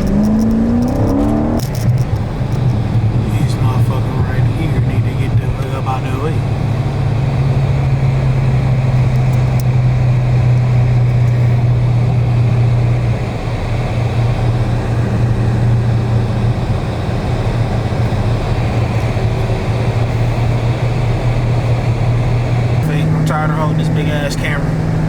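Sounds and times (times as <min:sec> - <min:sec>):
car engine exhaust droning: 0:00.0 - 0:25.0.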